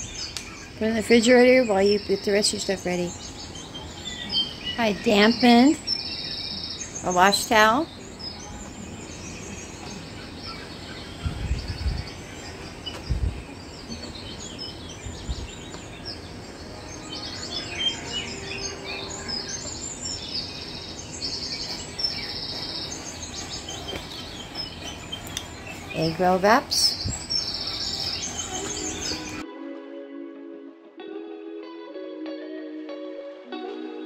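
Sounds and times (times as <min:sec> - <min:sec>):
small birds chirping: 0:00.0 - 0:29.4.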